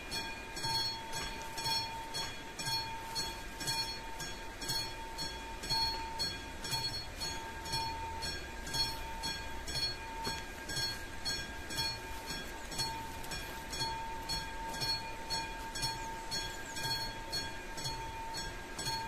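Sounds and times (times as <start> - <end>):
level crossing warning bell ringing: 0.0 - 19.0.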